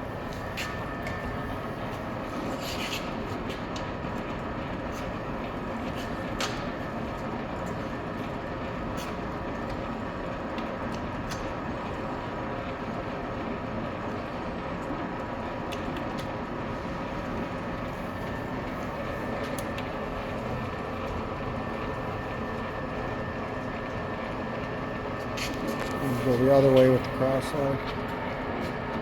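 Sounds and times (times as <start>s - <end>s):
lathe running with mechanical hum: 0.0s - 29.0s.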